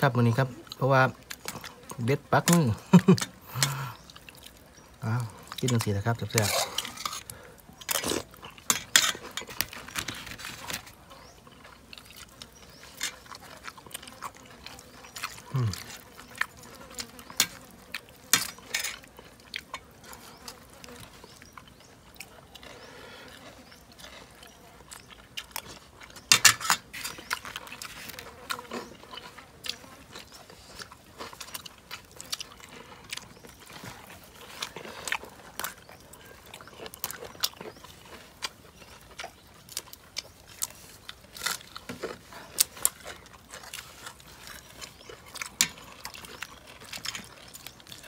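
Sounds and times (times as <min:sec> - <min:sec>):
chewing crunchy food: 0:00.0 - 0:48.0.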